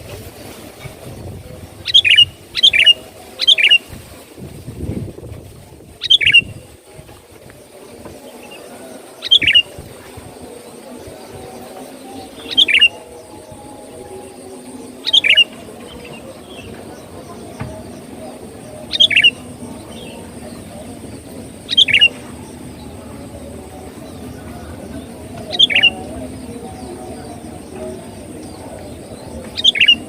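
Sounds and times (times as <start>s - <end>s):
bulbul calls: 1.7s - 3.9s, 6.0s - 6.6s, 8.1s - 30.0s.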